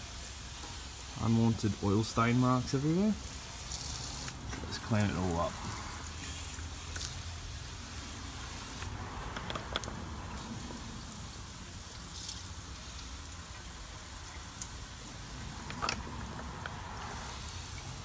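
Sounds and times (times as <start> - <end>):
hose water spraying on metal: 0.0 - 18.0.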